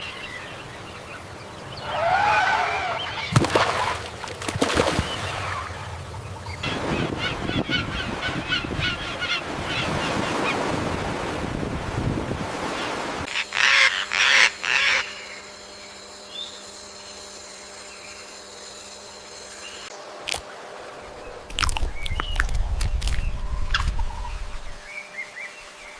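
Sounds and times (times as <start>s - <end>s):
bird calls: 0.0s - 4.0s, 4.6s - 10.8s, 12.7s - 19.9s, 21.0s - 25.9s
steady background hiss: 0.0s - 25.9s.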